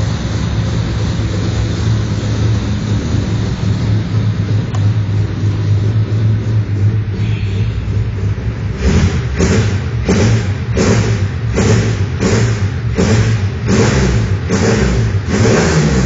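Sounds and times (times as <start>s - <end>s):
car engine deep rumble: 0.0s - 16.0s.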